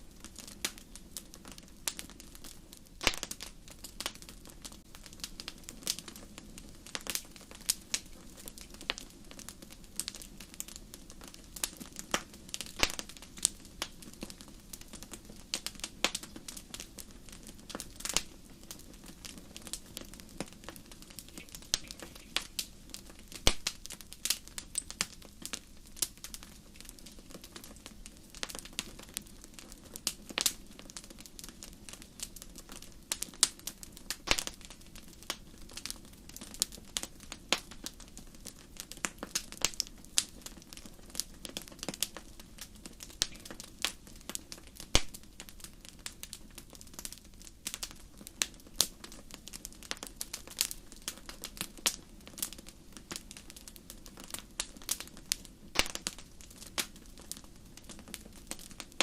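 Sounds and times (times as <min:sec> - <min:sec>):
low rumble of flame: 0:00.0 - 0:59.0
wood fire crackling and popping: 0:00.0 - 0:59.0.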